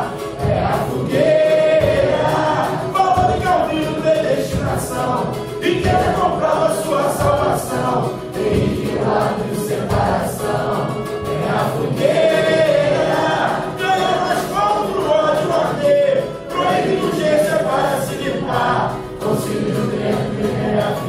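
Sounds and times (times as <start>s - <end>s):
group singing in unison: 0.0s - 21.0s
musical accompaniment: 0.0s - 21.0s.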